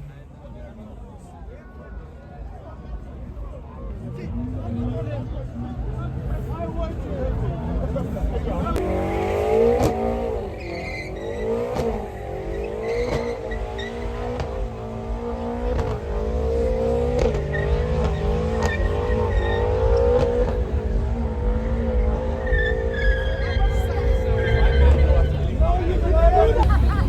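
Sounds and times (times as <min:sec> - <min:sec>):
car engine revving: 0:02.9 - 0:27.0.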